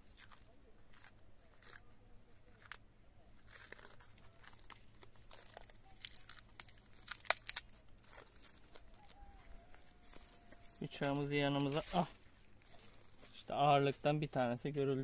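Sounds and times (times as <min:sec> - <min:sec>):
plastic wrap crinkling: 0:00.0 - 0:13.5.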